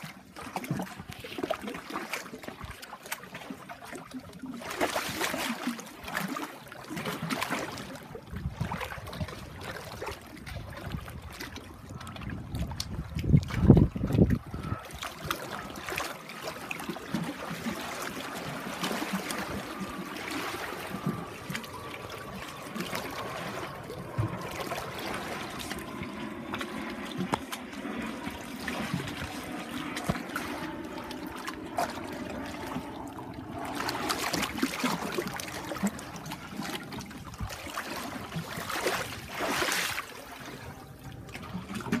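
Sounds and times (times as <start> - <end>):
stream water trickling: 0.0 - 42.0.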